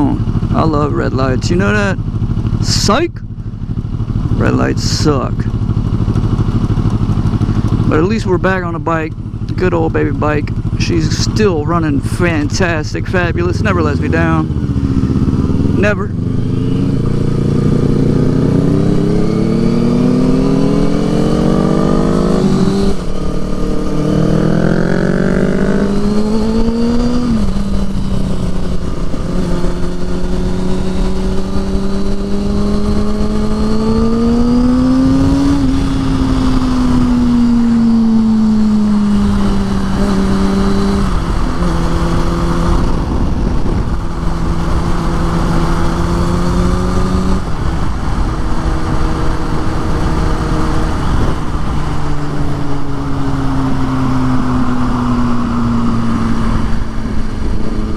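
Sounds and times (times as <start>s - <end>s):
low wind noise: 0.0s - 57.9s
motorcycle engine accelerating: 0.0s - 57.9s.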